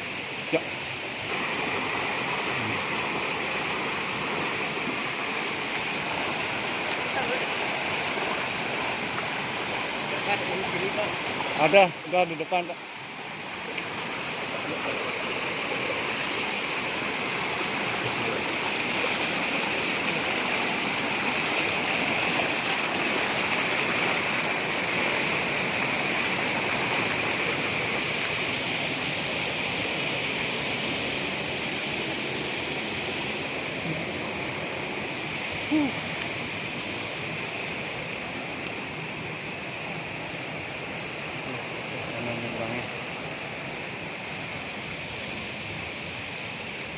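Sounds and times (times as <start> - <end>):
flowing water rushing: 0.0 - 46.9.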